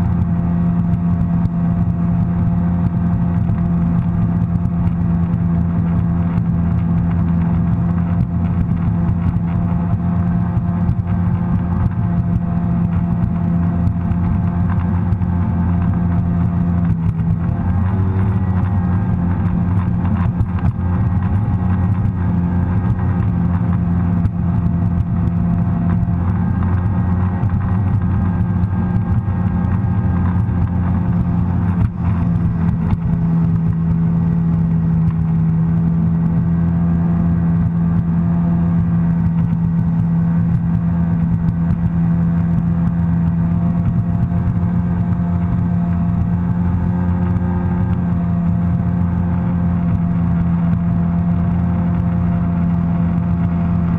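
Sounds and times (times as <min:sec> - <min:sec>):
watercraft engine drone: 0:00.0 - 0:53.9.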